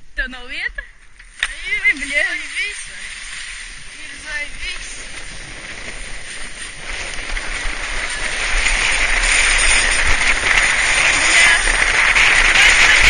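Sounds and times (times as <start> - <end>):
sledge sliding over packed snow: 1.4 - 13.0.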